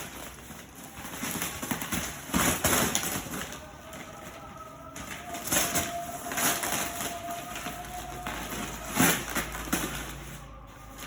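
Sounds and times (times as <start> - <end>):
wrapping paper tearing and crinkling: 0.0 - 11.0.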